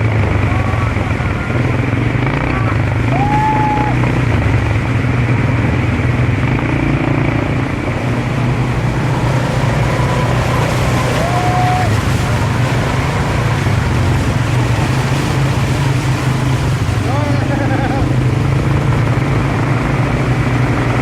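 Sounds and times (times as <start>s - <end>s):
road and wind noise: 0.0s - 21.0s
vehicle engine running: 0.0s - 21.0s.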